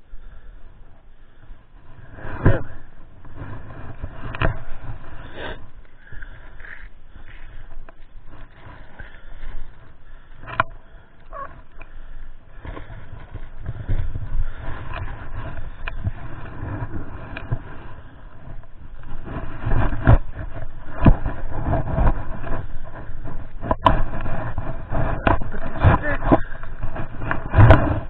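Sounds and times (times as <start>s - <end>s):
wind buffeting microphone: 1.7s - 28.0s.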